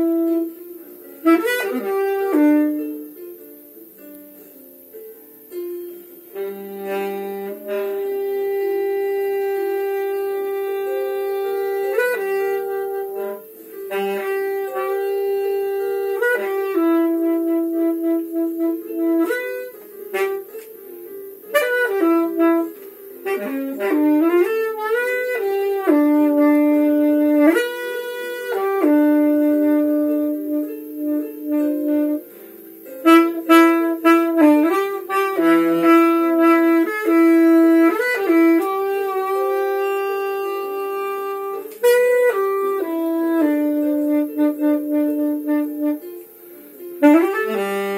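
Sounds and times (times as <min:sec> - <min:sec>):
solo saxophone melody: 0:00.0 - 0:47.9.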